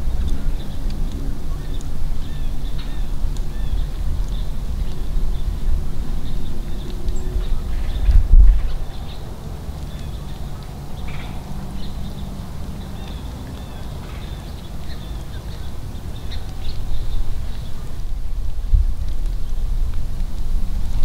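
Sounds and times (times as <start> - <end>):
small birds chirping: 0.0 - 21.0
wind on microphone: 0.0 - 21.0.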